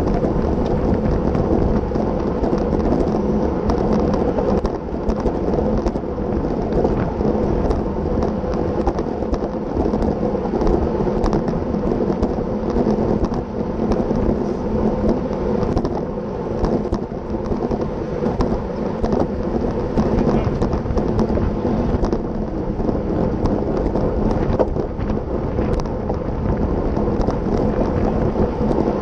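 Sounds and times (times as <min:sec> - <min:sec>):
small clicks and rattles: 0:00.0 - 0:29.0
wind rushing over microphone: 0:00.0 - 0:29.0.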